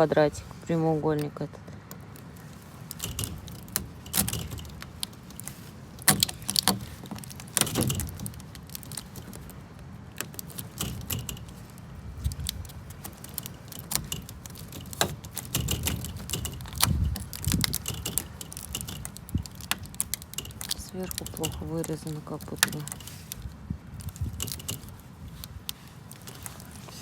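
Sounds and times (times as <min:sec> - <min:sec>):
plastic sheet clicking and snapping: 0:01.8 - 0:27.0.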